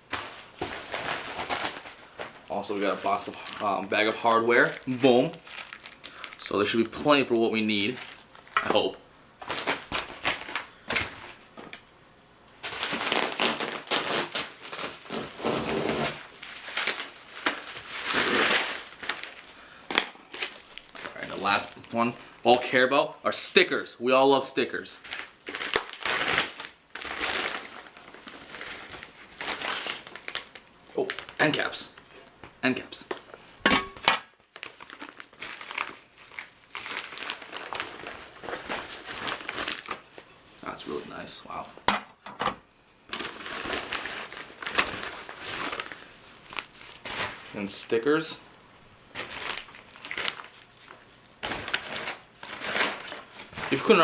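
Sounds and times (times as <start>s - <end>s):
plastic packaging crinkling: 0.0s - 11.8s, 12.6s - 22.9s, 24.7s - 41.7s, 43.0s - 48.2s, 49.1s - 54.0s.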